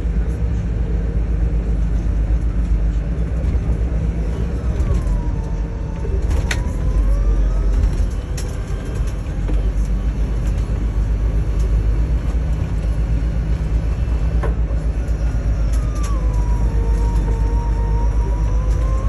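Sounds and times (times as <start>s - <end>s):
bus engine and road rumble: 0.0s - 19.0s
faint whine: 0.0s - 19.0s.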